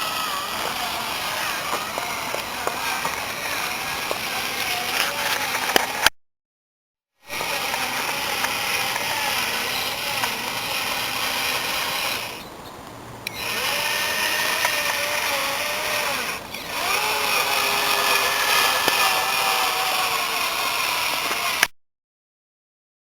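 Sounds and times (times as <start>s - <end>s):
electric motor and gearbox whining: 0.0s - 6.1s, 7.3s - 21.7s.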